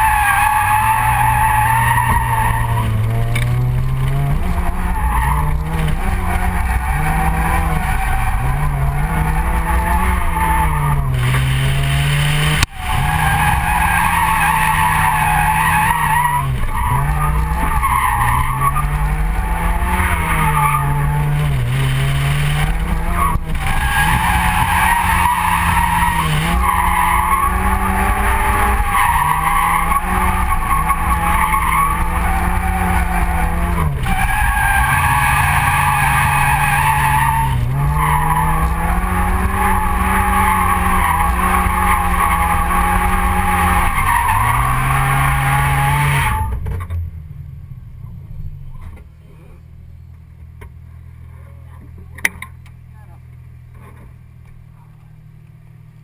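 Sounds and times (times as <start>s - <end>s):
rotary engine revving: 0.0s - 46.7s
tyres skidding: 0.0s - 55.1s.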